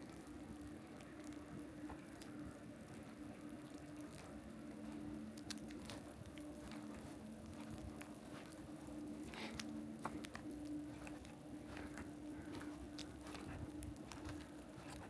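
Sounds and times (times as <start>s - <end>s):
faint low hum: 0.0s - 15.0s
light rain pattering: 0.0s - 15.0s.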